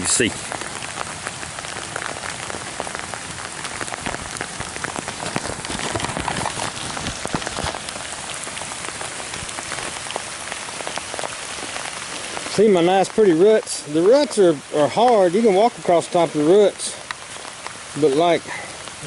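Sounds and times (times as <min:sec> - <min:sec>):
raindrops tapping near microphone: 0:00.0 - 0:19.0
steady rain falling: 0:00.0 - 0:19.0.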